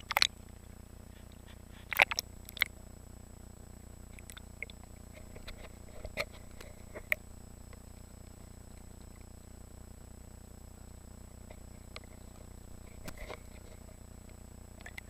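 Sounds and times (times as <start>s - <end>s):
low steady background: 0.0s - 15.0s.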